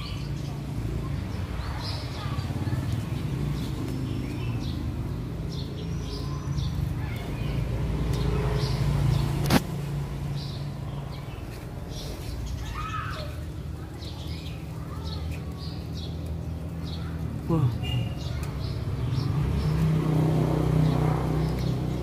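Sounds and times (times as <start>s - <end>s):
birds chirping faintly: 0.0s - 22.0s.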